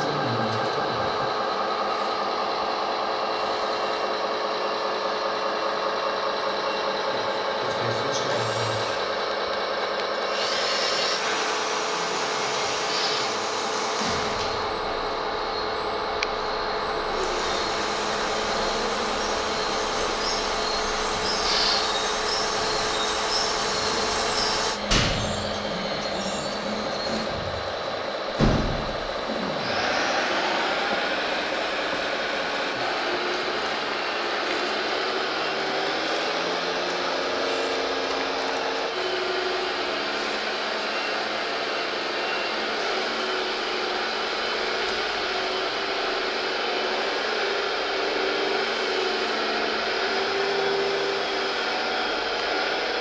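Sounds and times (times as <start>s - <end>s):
model tractor electric whine: 0.0s - 53.0s.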